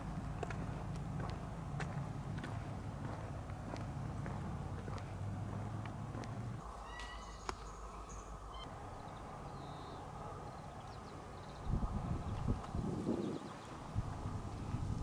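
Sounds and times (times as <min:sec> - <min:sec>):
steady low rumble: 0:00.0 - 0:06.8, 0:07.8 - 0:15.0.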